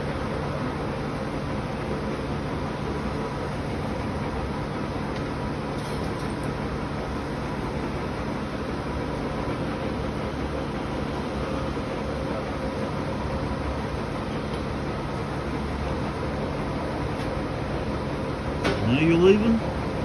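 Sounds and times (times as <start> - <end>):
truck engine and machinery droning: 0.0 - 20.0.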